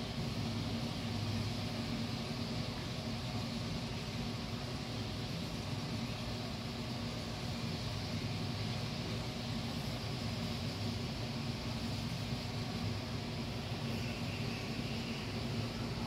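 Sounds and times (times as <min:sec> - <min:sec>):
even hiss: 0:00.0 - 0:16.0
steady low hum: 0:00.0 - 0:16.0.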